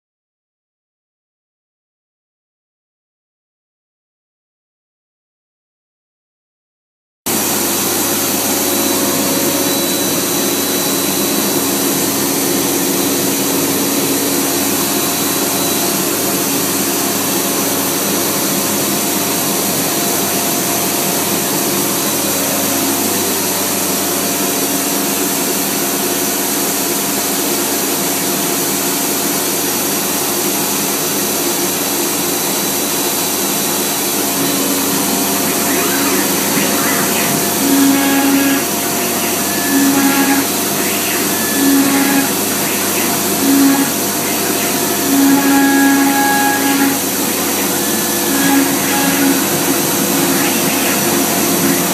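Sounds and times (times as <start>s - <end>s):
router spindle hum and hiss: 7.3s - 51.9s.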